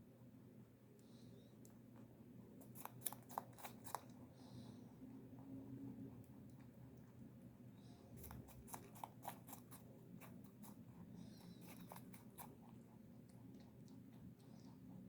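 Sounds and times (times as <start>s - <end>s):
rabbit chewing crunches: 0.9s - 15.0s.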